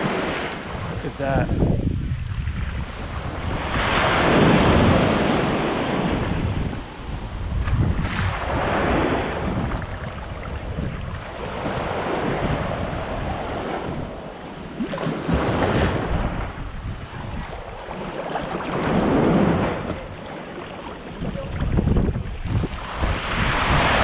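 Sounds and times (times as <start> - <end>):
sea waves breaking on a beach: 0.0 - 24.0
wind buffeting microphone: 0.0 - 24.0.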